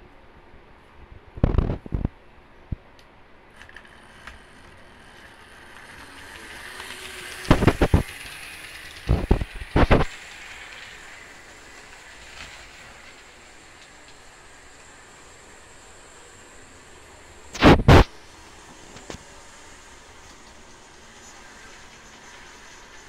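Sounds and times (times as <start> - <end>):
model train motor whirring: 3.5 - 23.0
wheels clattering on rails: 3.6 - 23.0.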